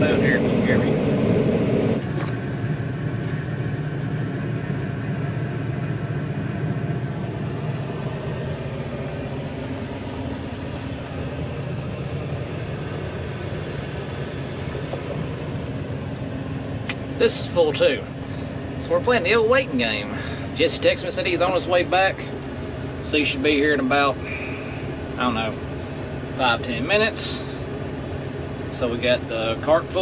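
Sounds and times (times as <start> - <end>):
machinery noise: 0.0 - 5.1, 6.4 - 27.8
combine engine drone: 0.0 - 30.0.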